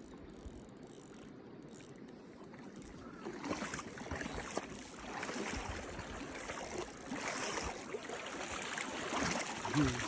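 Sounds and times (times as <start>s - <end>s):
river water splashing: 0.9s - 10.0s.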